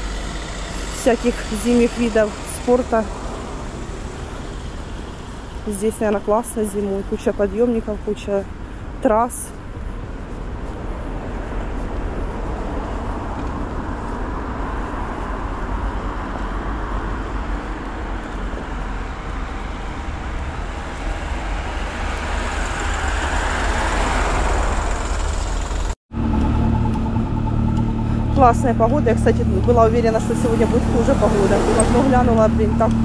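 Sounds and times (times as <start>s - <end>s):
car passing by: 0.0s - 6.2s, 10.2s - 33.0s
low steady engine hum: 0.0s - 33.0s.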